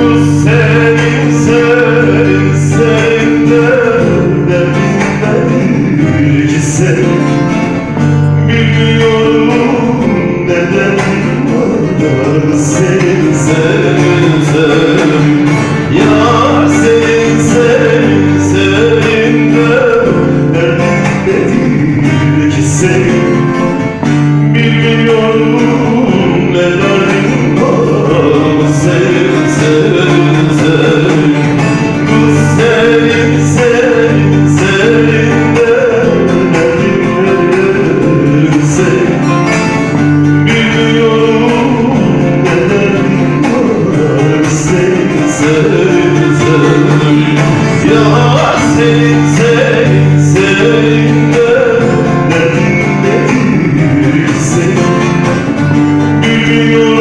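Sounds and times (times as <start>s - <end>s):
man singing into a microphone: 0.0s - 57.0s
plucked lute: 0.0s - 57.0s.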